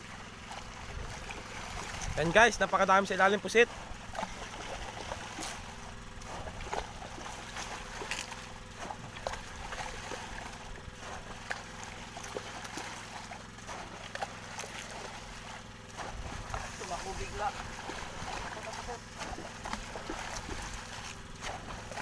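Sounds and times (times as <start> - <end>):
steady low hum: 0.0 - 22.0
water splashing against boat: 0.0 - 22.0.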